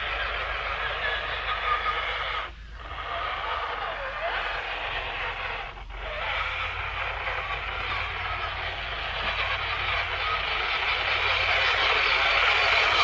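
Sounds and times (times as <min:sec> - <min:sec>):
toy car motor and gearbox whining: 0:00.0 - 0:13.0.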